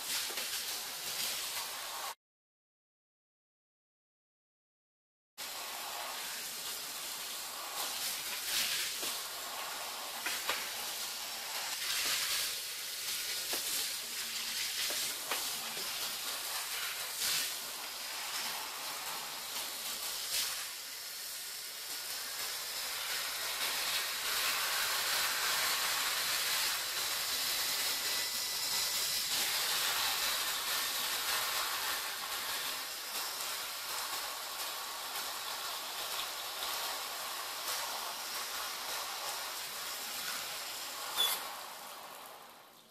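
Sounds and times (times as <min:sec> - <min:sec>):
shower water spraying onto bathtub: 0:00.0 - 0:02.2, 0:05.4 - 0:42.9.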